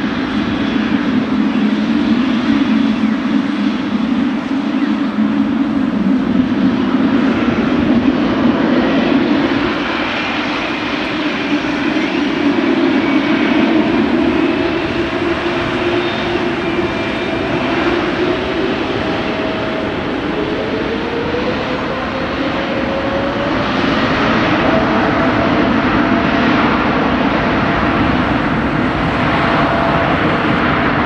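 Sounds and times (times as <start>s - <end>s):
jet engine whine rising: 0.0s - 31.0s
jet engines running: 0.0s - 31.0s.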